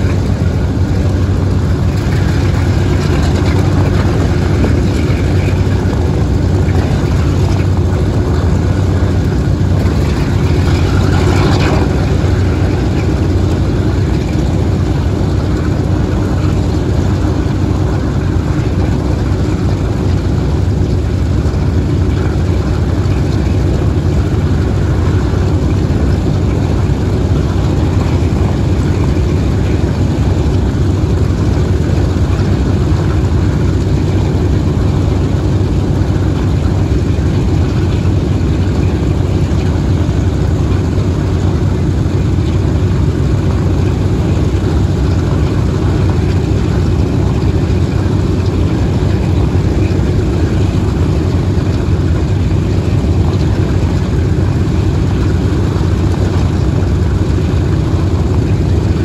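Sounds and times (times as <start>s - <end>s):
radial aircraft engines idling: 0.0s - 59.0s.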